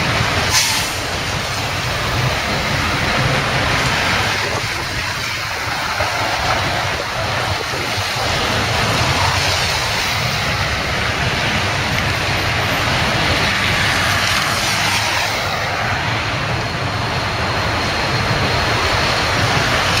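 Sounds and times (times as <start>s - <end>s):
strong wind gusting: 0.0s - 20.0s
wind buffeting microphone: 0.0s - 20.0s.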